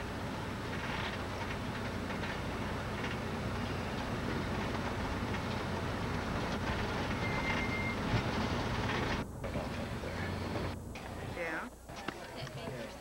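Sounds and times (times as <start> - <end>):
vehicle rumbling on dirt road: 0.0 - 13.0.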